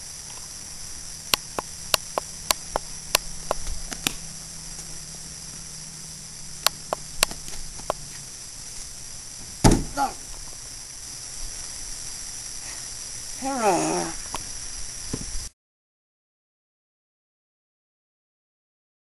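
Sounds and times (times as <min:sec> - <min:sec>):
night insects chirring: 0:00.0 - 0:15.6.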